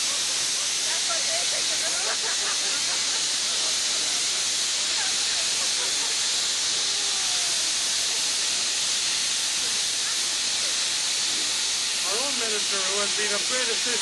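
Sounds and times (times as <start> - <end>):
steam locomotive hissing steam: 0.0 - 14.0.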